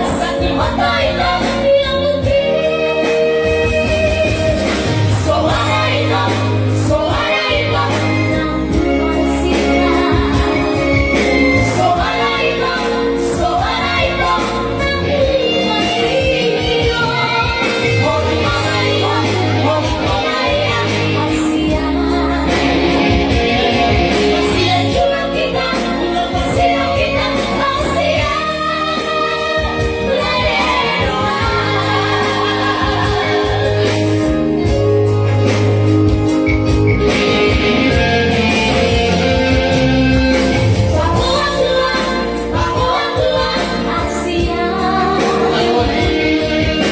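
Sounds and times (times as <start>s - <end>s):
keyboard and guitar band: 0.0s - 46.9s.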